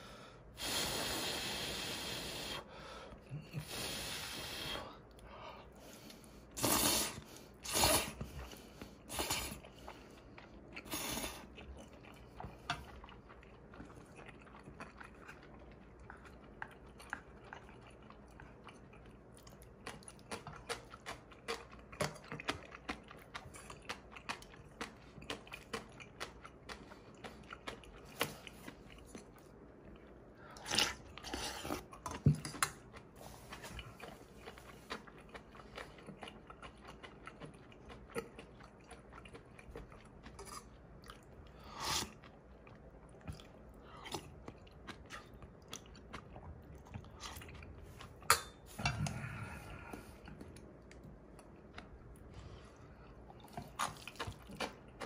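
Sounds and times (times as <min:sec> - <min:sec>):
person chewing and crunching: 0:06.6 - 0:55.0.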